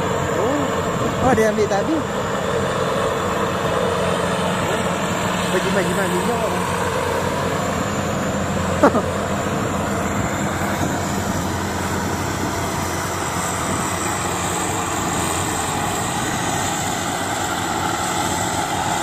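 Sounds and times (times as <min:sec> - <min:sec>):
combine harvester engine droning: 0:00.0 - 0:19.0.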